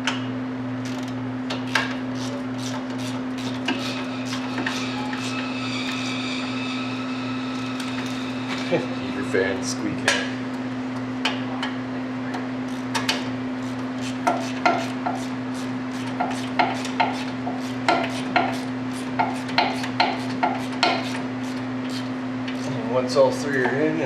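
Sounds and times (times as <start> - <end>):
heater fan humming: 0.0 - 24.0.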